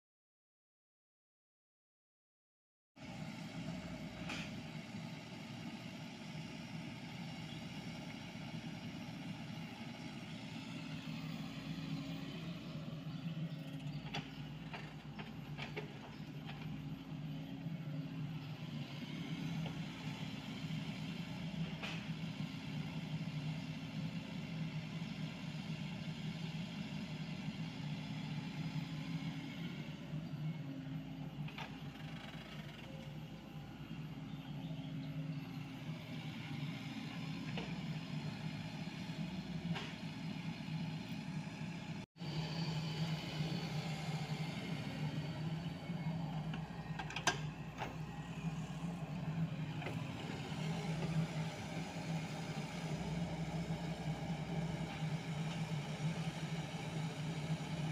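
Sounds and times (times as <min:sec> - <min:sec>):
excavator diesel engine running: 0:03.0 - 0:57.9.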